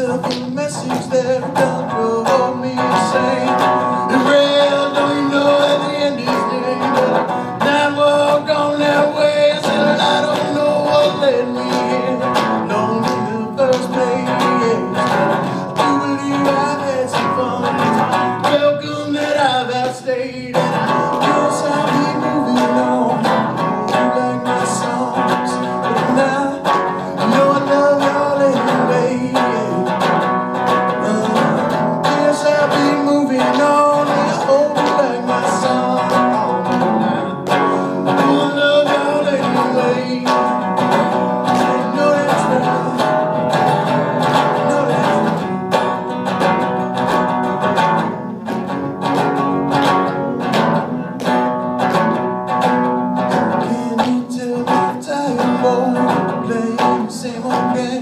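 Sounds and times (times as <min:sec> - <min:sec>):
man singing: 0:00.0 - 0:51.2, 0:53.2 - 0:58.0
acoustic guitar strumming: 0:00.0 - 0:58.0.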